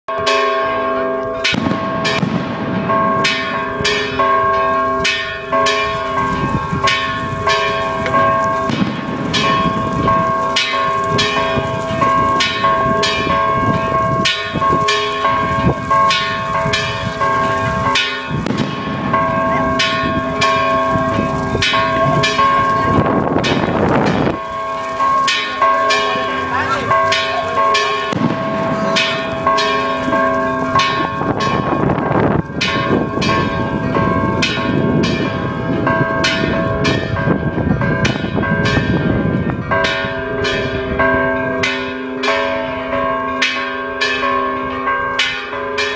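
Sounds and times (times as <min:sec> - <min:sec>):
church bells ringing: 0:00.1 - 0:45.9.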